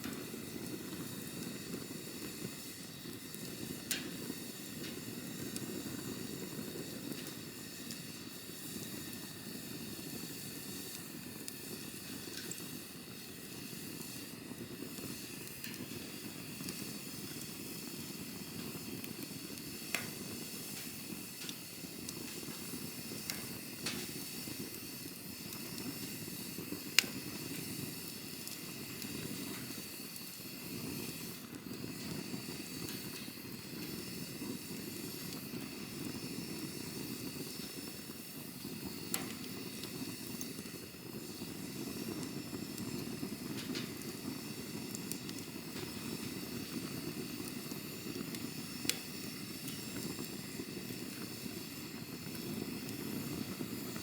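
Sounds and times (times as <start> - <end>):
campfire flames rushing: 0.0 - 54.0
fire crackles and pops: 0.0 - 54.0.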